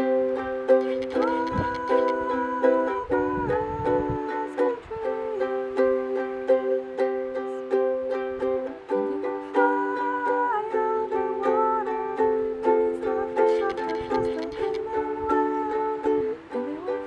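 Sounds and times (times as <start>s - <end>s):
acoustic string instrument strummed: 0.0s - 17.0s.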